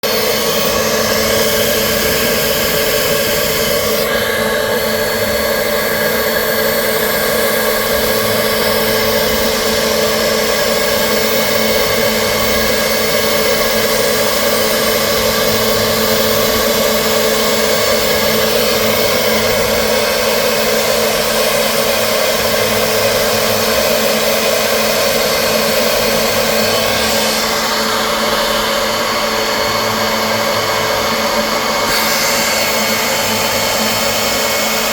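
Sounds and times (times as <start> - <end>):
machine whine and hiss: 0.0 - 34.9
steady hum: 0.0 - 34.9.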